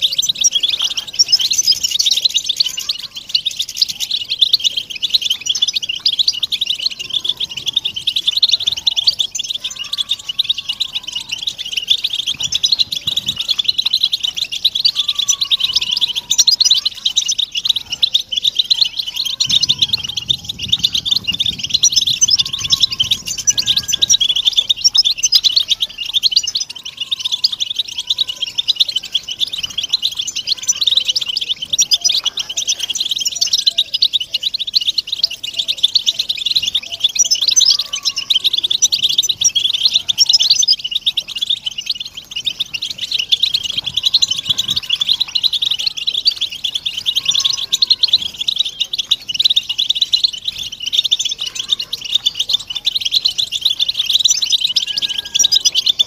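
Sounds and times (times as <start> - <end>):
goldfinches twittering: 0.0 - 56.0.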